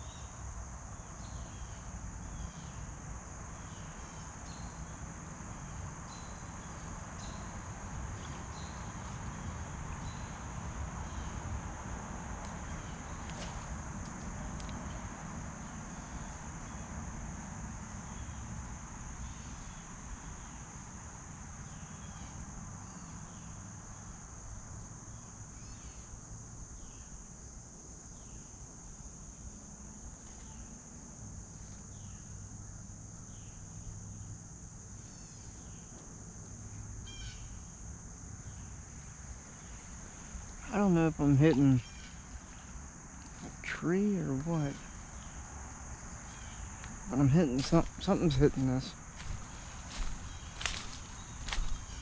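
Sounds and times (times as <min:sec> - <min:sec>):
insect chorus: 0:00.0 - 0:52.0.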